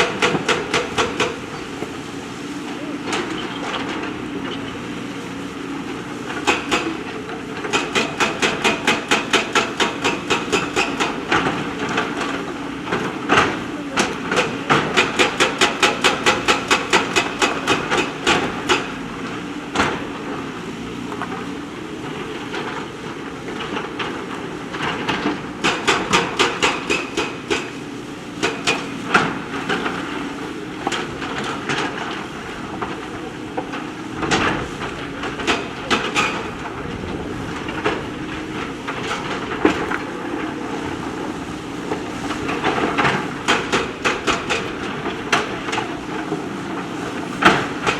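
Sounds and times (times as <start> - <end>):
diesel engine under load: 0.0 - 47.9.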